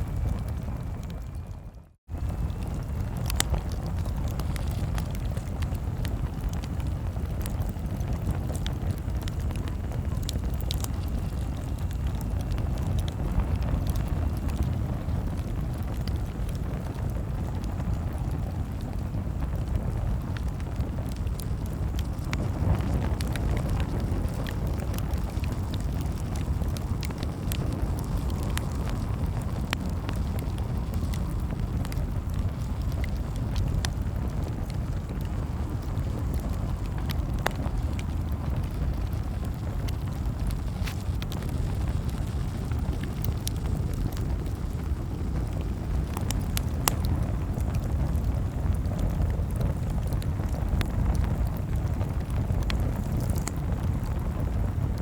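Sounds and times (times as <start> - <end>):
low rumble: 0.0 - 50.0
campfire crackling: 0.0 - 55.0.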